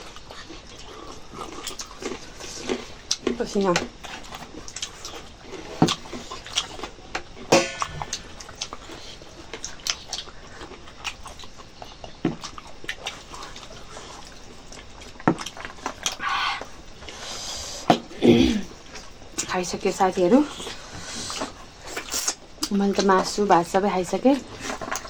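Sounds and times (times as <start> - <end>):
mouth chewing food: 0.0 - 25.0.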